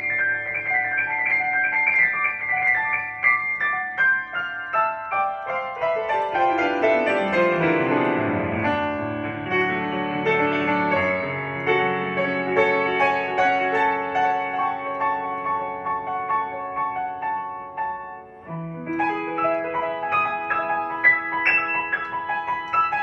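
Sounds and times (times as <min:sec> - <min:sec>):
upright piano playing: 0:00.0 - 0:23.0.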